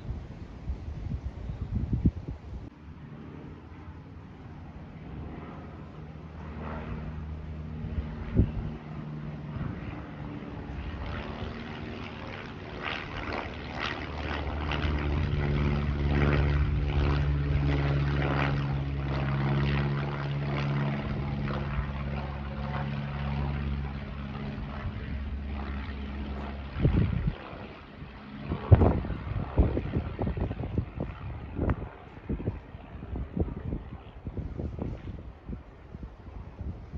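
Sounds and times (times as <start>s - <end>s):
aircraft engine drone: 0.0s - 36.9s.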